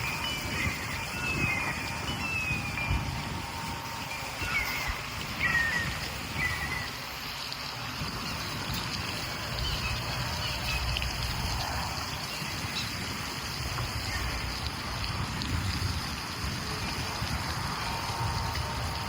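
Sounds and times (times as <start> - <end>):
water trickling and flowing: 0.0 - 19.0.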